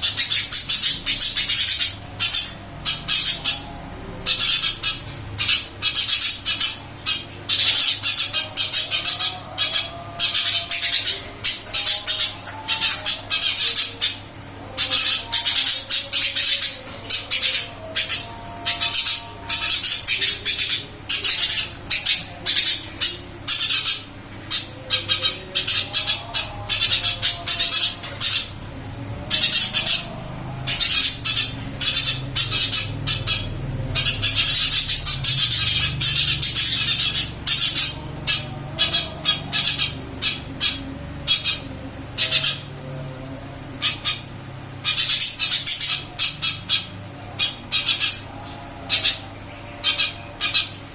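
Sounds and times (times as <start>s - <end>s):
sparrow chirping: 0.0s - 42.8s, 43.7s - 50.9s.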